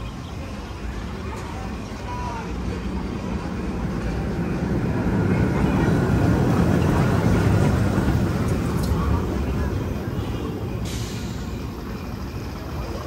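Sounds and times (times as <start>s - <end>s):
roller coaster train rushing: 0.0s - 13.0s.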